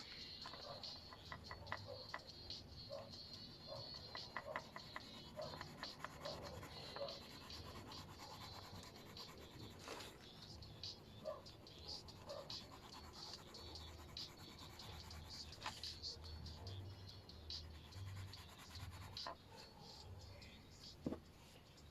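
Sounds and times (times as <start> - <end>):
colouring tool scratching paper: 0.5 - 19.4.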